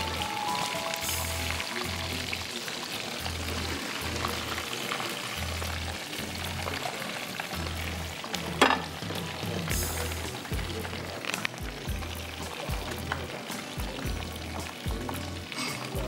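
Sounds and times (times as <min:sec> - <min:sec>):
background music with low beat: 0:00.0 - 0:16.0
oil sizzling in a wok: 0:00.0 - 0:16.0.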